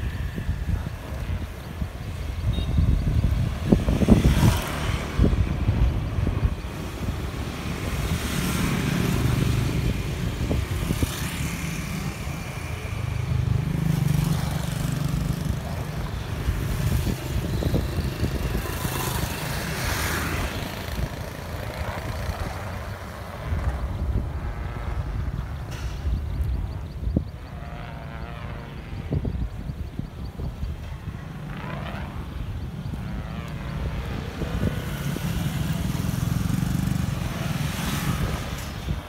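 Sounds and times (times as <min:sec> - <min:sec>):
low traffic rumble: 0:00.0 - 0:39.0
motorbikes passing: 0:00.0 - 0:39.0.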